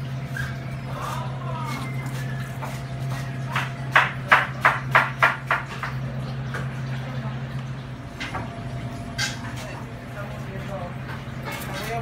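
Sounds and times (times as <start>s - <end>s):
low hum of kitchen equipment: 0.0s - 12.0s.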